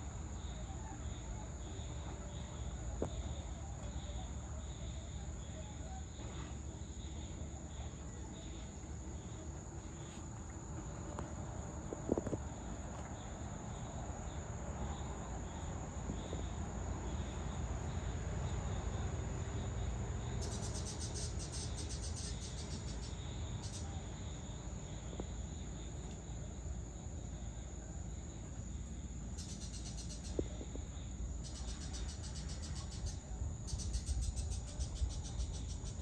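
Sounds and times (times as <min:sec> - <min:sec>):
crickets chirring: 0:00.0 - 0:36.0
rapid ticking insect call: 0:00.0 - 0:36.0.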